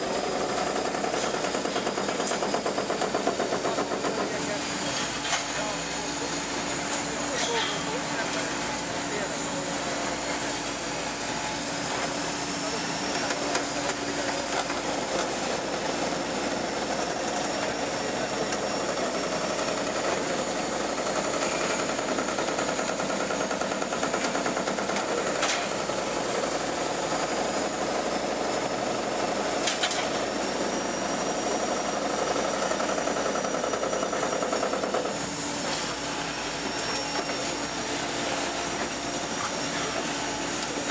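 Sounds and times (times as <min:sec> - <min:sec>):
excavator diesel engine running: 0:00.0 - 0:40.9
hydraulics working: 0:00.1 - 0:40.9.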